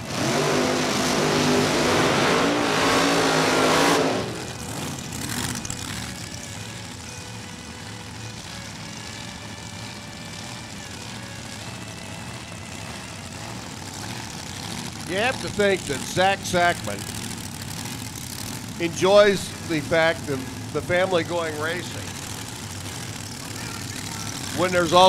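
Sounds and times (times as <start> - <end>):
dragster engines revving and idling: 0.0 - 25.0.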